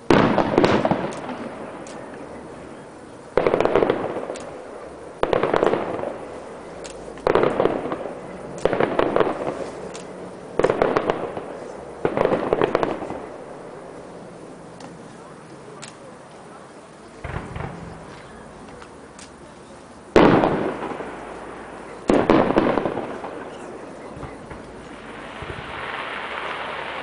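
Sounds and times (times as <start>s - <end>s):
fireworks bangs and crackle: 0.0s - 27.0s.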